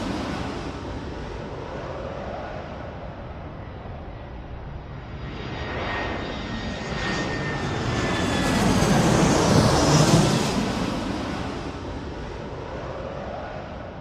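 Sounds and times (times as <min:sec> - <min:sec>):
airplane passing overhead: 0:00.0 - 0:14.0.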